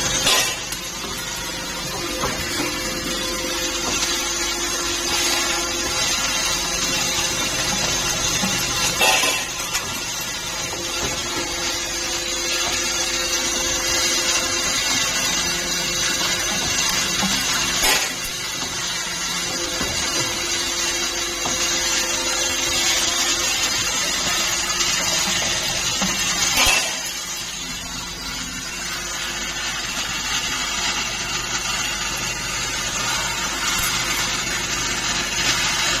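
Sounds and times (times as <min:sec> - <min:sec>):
machine hum and hiss: 0:00.0 - 0:36.0.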